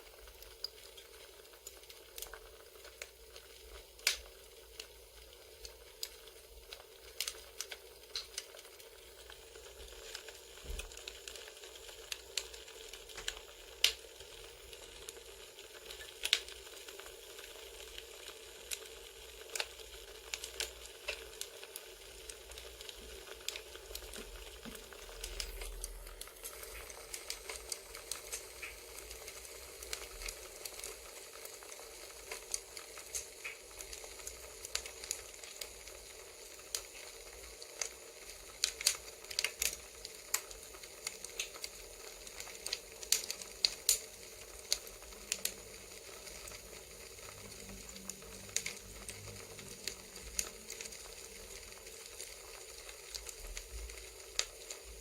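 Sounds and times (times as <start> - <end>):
campfire crackling: 0.0 - 55.0
burning wood popping and snapping: 0.3 - 14.3, 15.8 - 16.9, 18.7 - 55.0.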